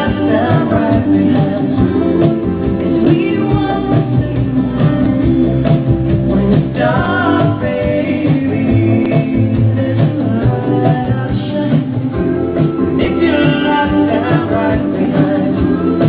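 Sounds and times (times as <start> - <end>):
song with singing and guitar: 0.0 - 16.0.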